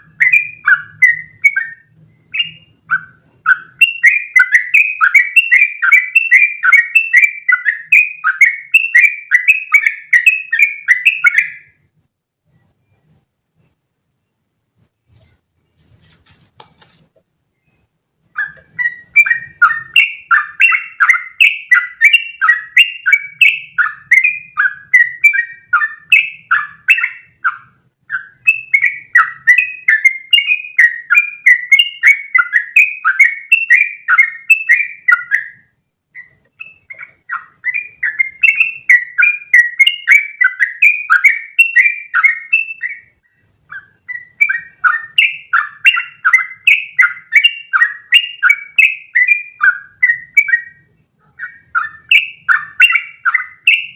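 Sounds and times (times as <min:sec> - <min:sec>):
bulbul chattering song: 0:00.0 - 0:14.5, 0:16.8 - 0:53.9.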